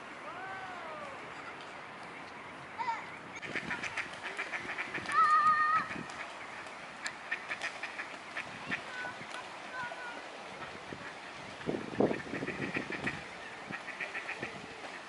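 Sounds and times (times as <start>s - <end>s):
ducks quacking: 1.4s - 15.0s.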